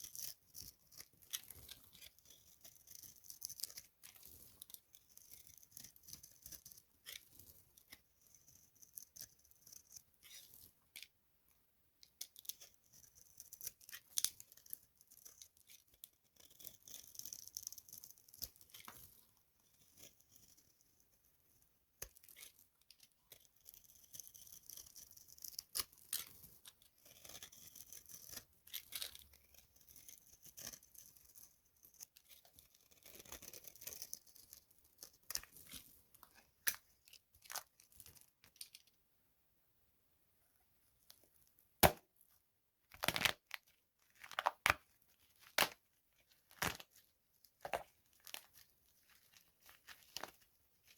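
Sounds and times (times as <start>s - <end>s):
soap crumbling and crackling: 0.0s - 11.2s, 12.0s - 39.0s, 42.9s - 50.9s.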